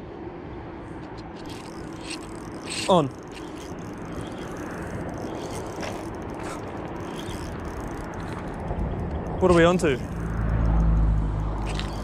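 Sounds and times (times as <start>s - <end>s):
outdoor background rush: 0.0s - 12.0s
faint ticks: 1.0s - 12.0s
spinning reel winding: 1.2s - 12.0s.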